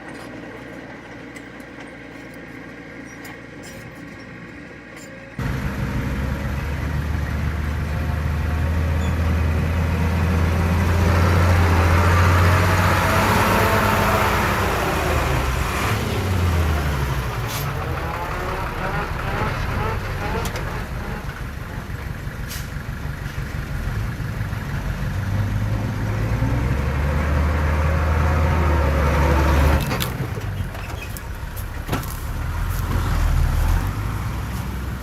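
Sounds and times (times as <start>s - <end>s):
diesel machine engine under load: 0.0s - 35.0s.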